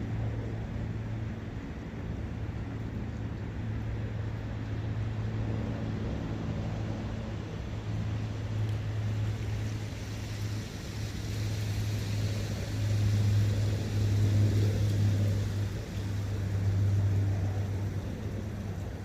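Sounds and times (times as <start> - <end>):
wind rushing in forest: 0.0 - 19.0.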